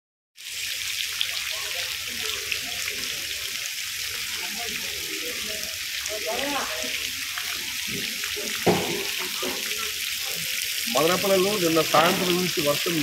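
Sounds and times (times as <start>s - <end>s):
light rain falling: 0.4s - 13.0s.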